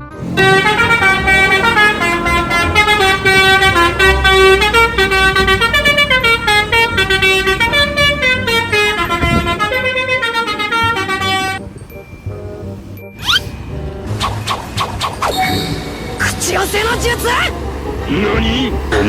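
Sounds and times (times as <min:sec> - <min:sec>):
bus musical horn tune: 0:00.0 - 0:19.0.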